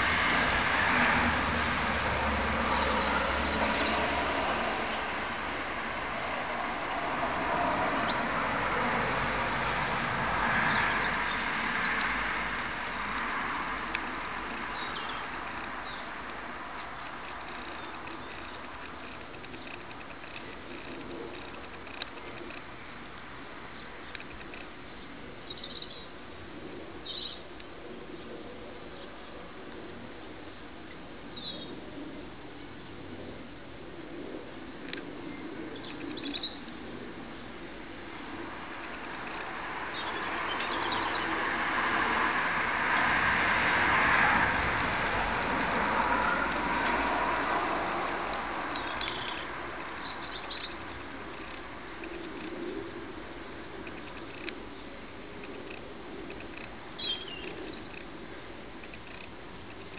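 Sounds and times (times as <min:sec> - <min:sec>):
garden birds chirping: 0:00.0 - 0:43.2, 0:44.8 - 0:59.9.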